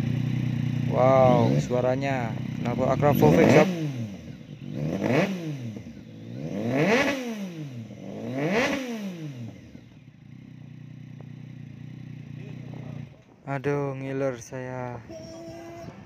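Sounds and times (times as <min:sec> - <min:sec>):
motorcycle engine idling: 0:00.0 - 0:08.3, 0:08.9 - 0:16.0
motorcycle engine revving: 0:00.0 - 0:13.4.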